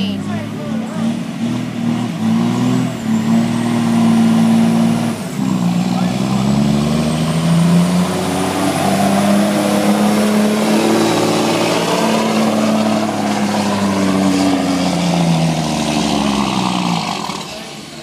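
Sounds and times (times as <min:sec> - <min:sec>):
diesel truck engine under load: 0:00.0 - 0:18.0.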